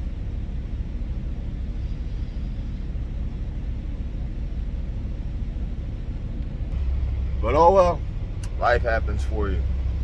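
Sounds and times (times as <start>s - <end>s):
diesel truck idling: 0.0s - 10.0s.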